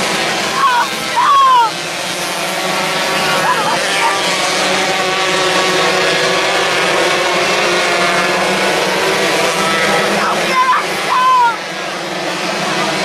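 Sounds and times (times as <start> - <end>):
racing cars engines at high revs: 0.0 - 13.0.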